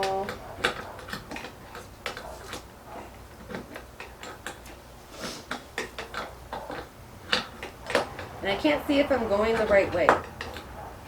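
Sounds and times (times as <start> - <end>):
metal parts clicking and tapping: 0.0 - 11.0.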